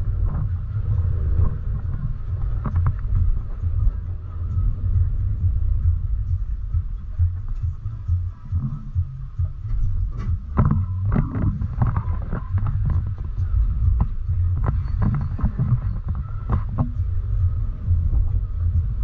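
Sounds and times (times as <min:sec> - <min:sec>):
bus engine and road rumble: 0:00.0 - 0:19.0
wind buffeting microphone: 0:00.0 - 0:19.0.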